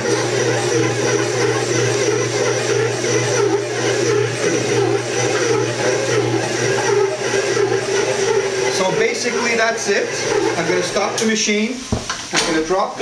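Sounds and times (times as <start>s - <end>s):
stand mixer motor whirring: 0.0s - 13.0s.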